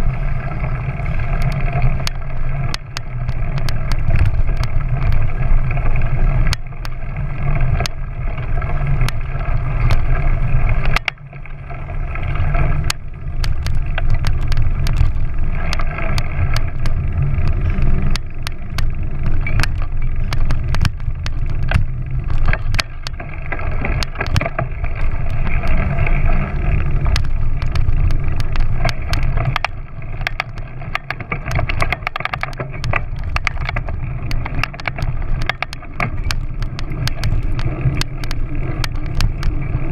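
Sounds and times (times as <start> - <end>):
small motorbike engine running: 0.0 - 39.9
wind rumbling on microphone: 0.0 - 39.9
sharp clicks and knocks: 1.2 - 11.4, 12.3 - 39.9.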